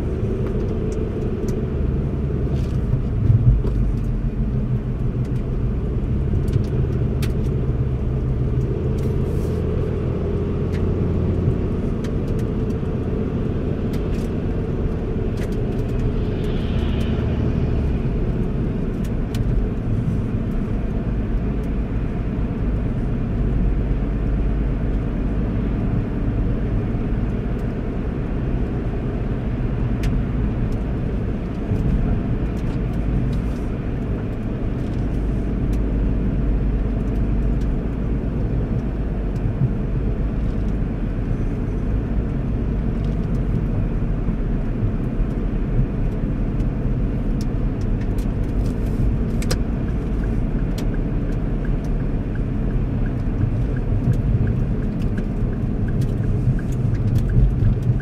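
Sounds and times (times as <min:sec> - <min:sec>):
car road noise inside cabin: 0:00.0 - 0:58.0.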